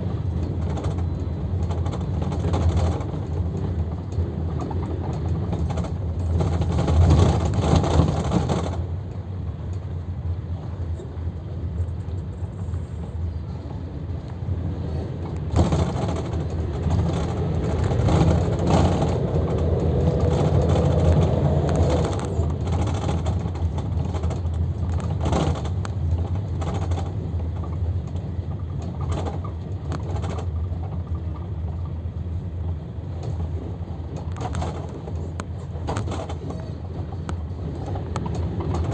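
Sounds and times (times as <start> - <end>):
minibus engine hum: 0.0 - 38.9
road and body noise: 0.0 - 38.9.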